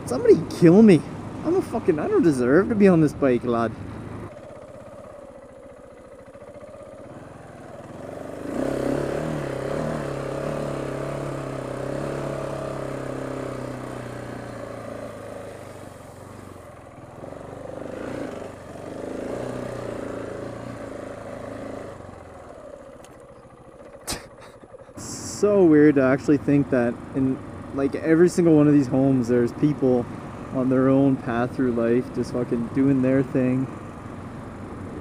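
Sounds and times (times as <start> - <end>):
motorcycle engine under load: 0.0 - 35.0.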